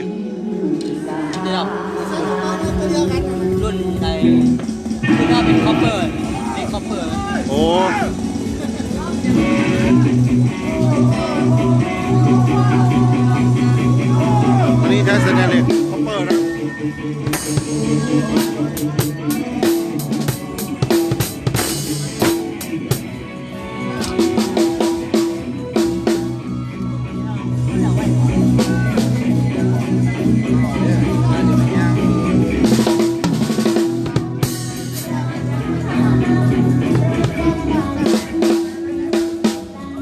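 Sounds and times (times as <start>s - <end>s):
band music with drum kit: 2.6s - 40.0s.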